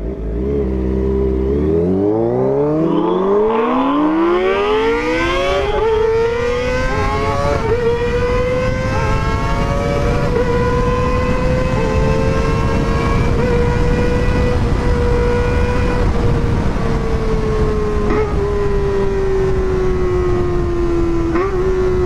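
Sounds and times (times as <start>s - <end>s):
motorcycle engine accelerating hard: 0.0s - 22.0s
wind noise: 1.1s - 22.0s.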